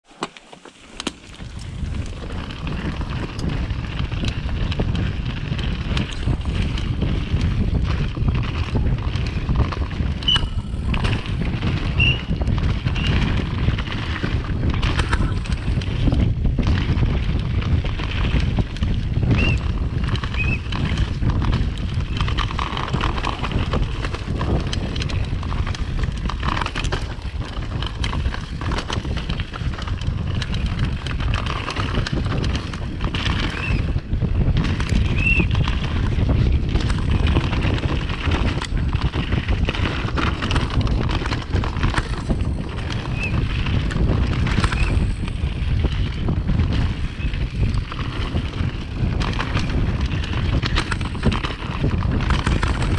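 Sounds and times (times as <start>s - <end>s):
bike clattering and rattling: 0.0s - 52.9s
bike tyres rumbling over dirt: 0.0s - 52.9s
wind noise on microphone: 0.9s - 52.9s.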